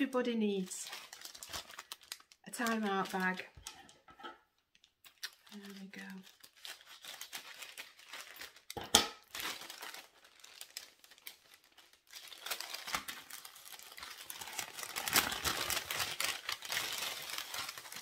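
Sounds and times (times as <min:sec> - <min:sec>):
packaging crinkling: 0:00.0 - 0:03.9, 0:04.6 - 0:18.0.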